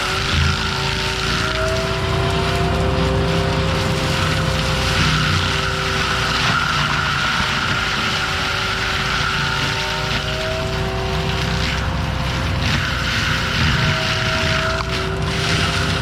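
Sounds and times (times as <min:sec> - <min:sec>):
loader engine running: 0:00.0 - 0:16.0
mulcher whine: 0:00.0 - 0:16.0.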